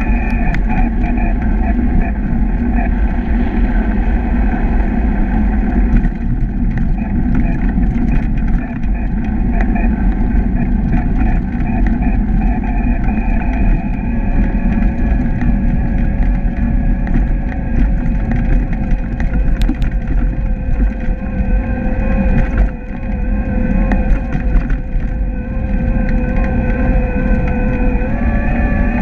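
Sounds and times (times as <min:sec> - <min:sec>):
electric bike motor whining: 0:00.0 - 0:29.0
road noise rumble: 0:00.0 - 0:29.0.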